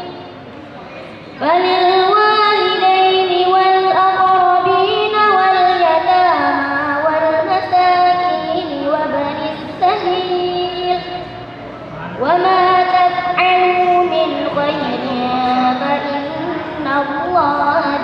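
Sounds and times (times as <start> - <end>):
girl chanting melodically: 1.3 - 11.5, 12.2 - 18.0.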